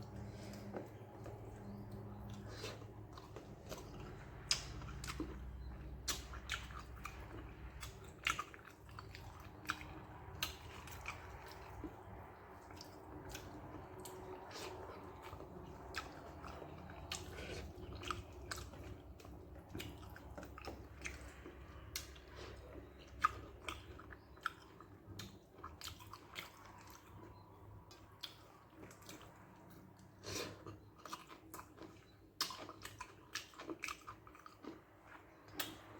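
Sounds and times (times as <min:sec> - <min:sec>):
person chewing with mouth clicks: 0:00.0 - 0:35.9.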